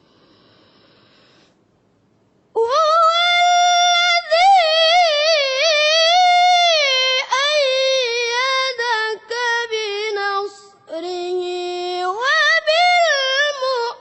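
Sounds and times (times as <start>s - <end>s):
person reciting melodically: 2.6s - 14.0s.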